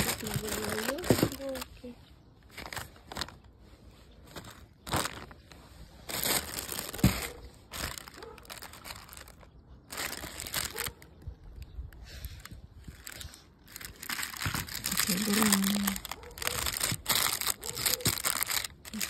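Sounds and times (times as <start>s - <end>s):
plastic bags crinkling: 0.0s - 3.5s, 4.2s - 11.2s, 12.4s - 19.0s.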